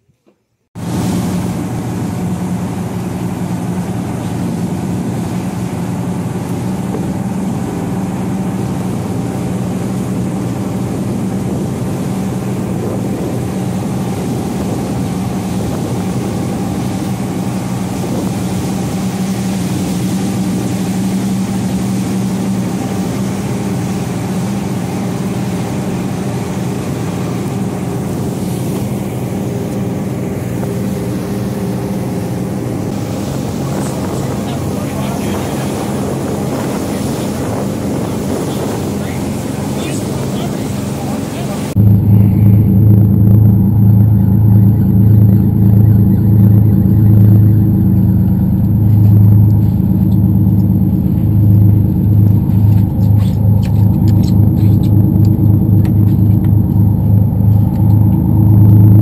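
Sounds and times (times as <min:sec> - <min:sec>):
boat engines droning: 0:00.7 - 0:59.0
water rushing along hull: 0:00.8 - 0:59.0.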